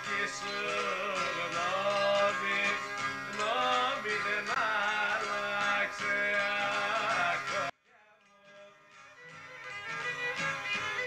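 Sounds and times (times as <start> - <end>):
sliding melody over held backing: 0.0 - 7.8, 8.9 - 11.0.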